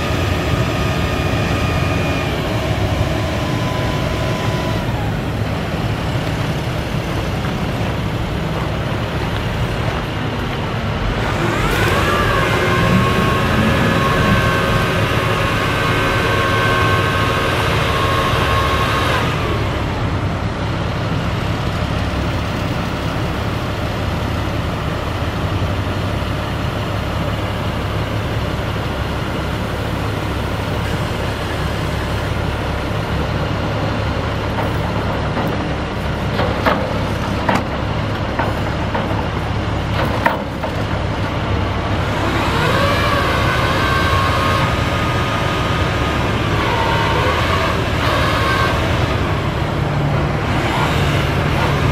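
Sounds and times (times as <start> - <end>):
hydraulic pump whine: 0.0 - 24.0, 26.0 - 51.9
diesel engine running: 0.0 - 51.9.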